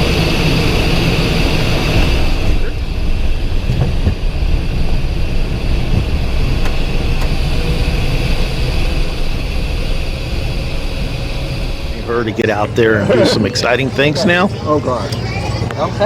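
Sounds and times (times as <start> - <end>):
jet cockpit engine rumble: 0.0 - 16.0.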